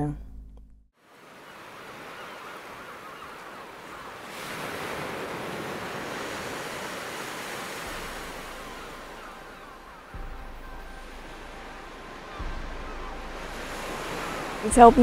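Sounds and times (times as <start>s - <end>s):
wind: 0.9s - 15.0s
sea waves washing: 1.0s - 15.0s.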